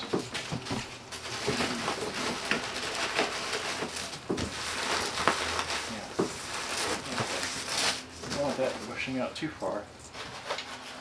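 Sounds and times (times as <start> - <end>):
cardboard scraping and rustling: 0.0 - 9.2.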